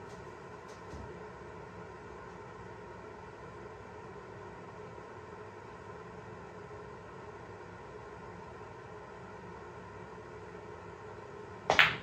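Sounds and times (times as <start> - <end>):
steady background hum and hiss: 0.0 - 12.0.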